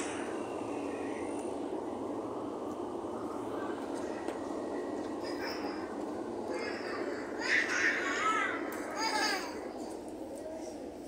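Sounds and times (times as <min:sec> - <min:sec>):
standing train rumble and hiss: 0:00.0 - 0:11.0.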